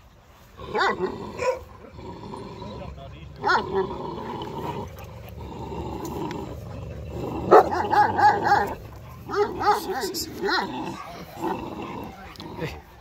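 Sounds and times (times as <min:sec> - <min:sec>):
dogs barking: 0:00.7 - 0:13.0.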